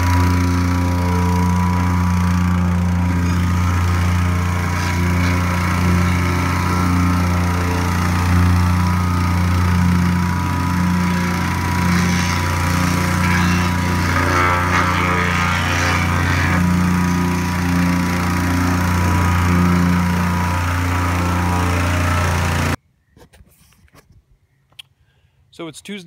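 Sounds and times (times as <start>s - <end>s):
plate compactor engine humming: 0.0s - 22.8s.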